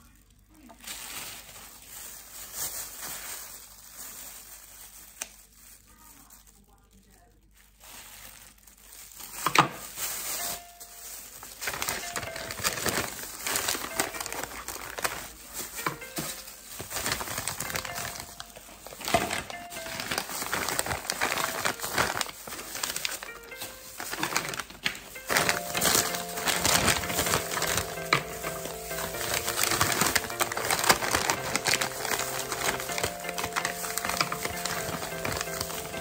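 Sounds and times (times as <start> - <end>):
plastic packets crinkling: 0.0 - 36.0.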